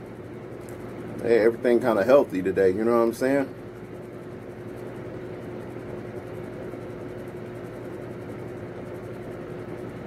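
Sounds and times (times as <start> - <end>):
appliance humming: 0.0 - 10.0.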